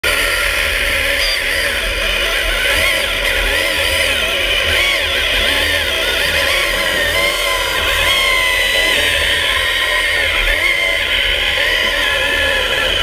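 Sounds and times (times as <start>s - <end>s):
underwater chainsaw cutting wood: 0.0s - 13.0s.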